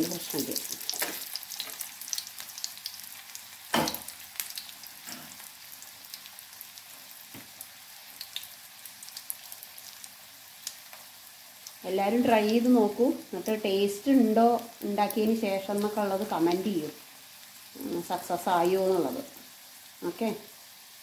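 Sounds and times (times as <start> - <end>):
oil sizzling and crackling: 0.0 - 21.0.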